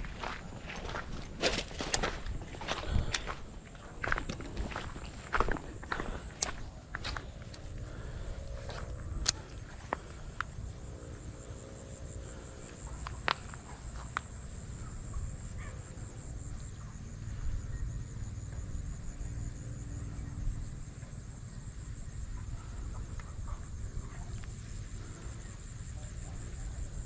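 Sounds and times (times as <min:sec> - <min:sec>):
insects trilling: 0:00.0 - 0:27.0.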